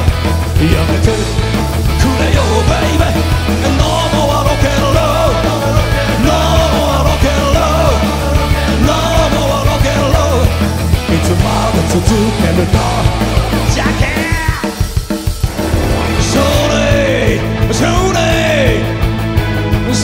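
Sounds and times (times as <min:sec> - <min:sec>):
live rock band: 0:00.0 - 0:20.0
man singing: 0:00.4 - 0:15.0, 0:16.0 - 0:19.0.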